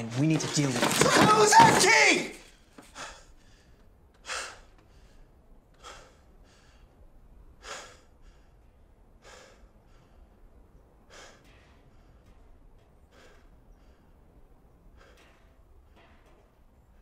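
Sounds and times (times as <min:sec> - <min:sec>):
man breathing hard: 0:02.4 - 0:16.4.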